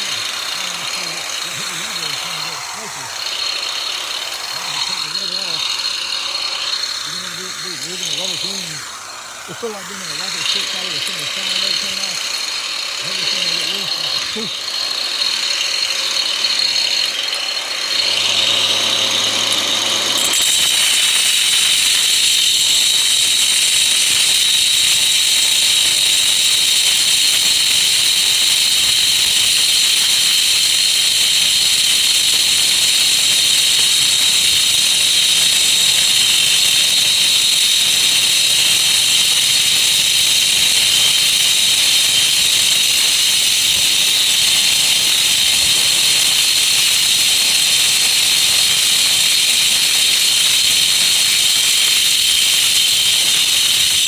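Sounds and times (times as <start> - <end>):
electric grinder whining: 0.0 - 54.0.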